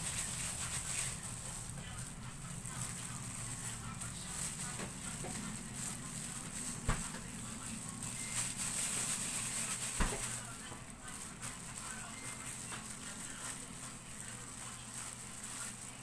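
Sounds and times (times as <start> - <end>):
plastic gloves crinkling: 0.0 - 16.0
steady low hum: 0.0 - 16.0
sticky dough squishing: 0.0 - 16.0.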